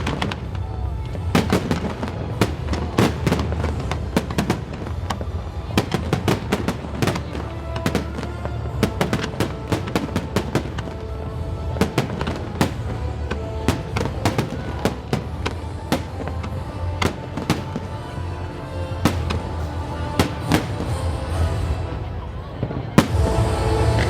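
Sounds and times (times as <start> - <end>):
fireworks bangs: 0.0 - 24.0
music playing: 0.0 - 24.0.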